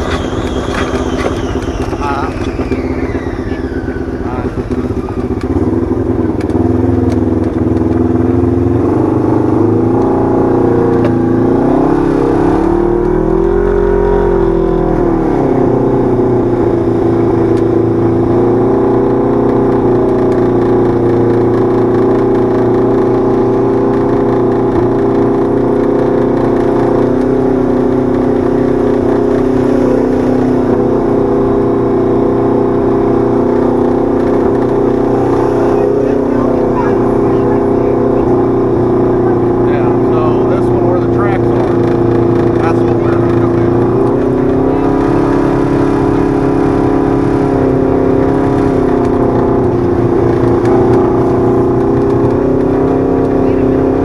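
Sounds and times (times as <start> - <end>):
utv engine running: 0.0 - 54.0.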